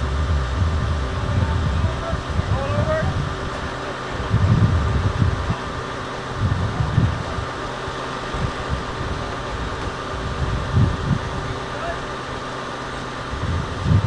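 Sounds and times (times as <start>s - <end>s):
faint steady hum: 0.0s - 14.0s
wind buffeting microphone: 0.0s - 14.0s.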